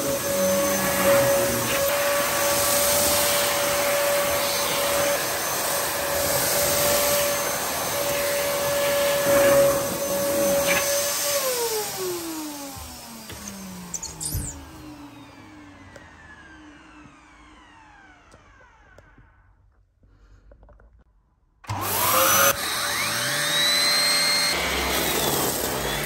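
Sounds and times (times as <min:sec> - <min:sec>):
vacuum cleaner running: 0:00.0 - 0:19.5, 0:21.6 - 0:26.0
vacuum motor winding down: 0:00.0 - 0:19.6, 0:21.6 - 0:26.0.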